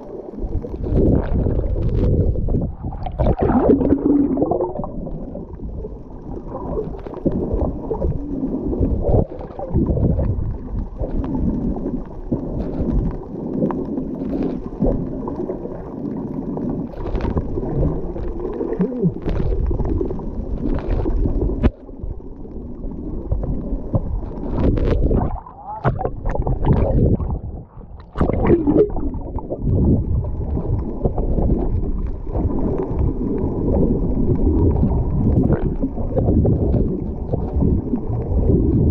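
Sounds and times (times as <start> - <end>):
muffled underwater churn: 0.0 - 38.9
water gurgles: 0.0 - 38.9.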